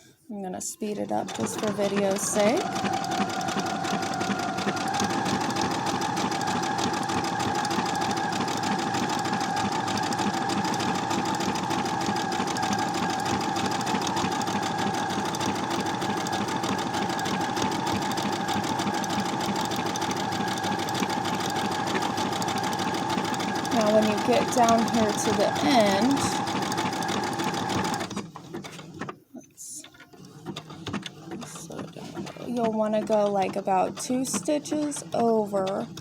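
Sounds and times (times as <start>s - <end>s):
sewing machine running: 0.8s - 29.1s, 29.7s - 36.0s.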